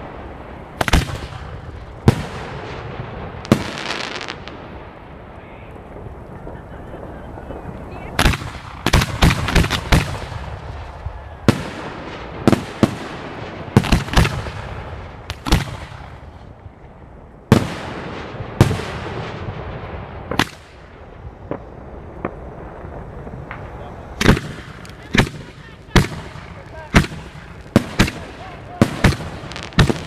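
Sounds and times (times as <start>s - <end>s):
fireworks booming: 0.0s - 30.0s.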